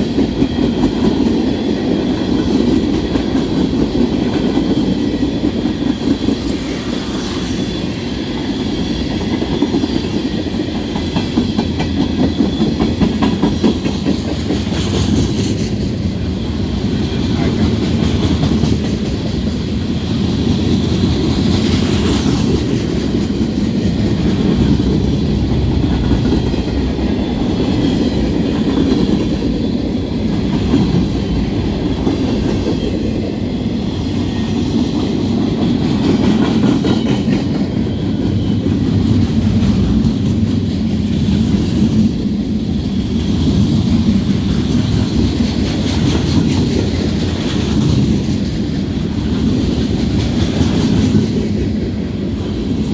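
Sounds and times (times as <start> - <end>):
train wheels clattering over rail joints: 0.0 - 52.9.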